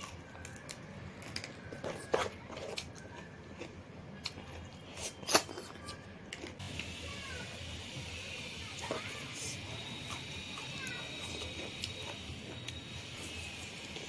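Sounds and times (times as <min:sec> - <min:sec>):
chewing and crunching food: 0:00.0 - 0:07.0, 0:08.8 - 0:14.0.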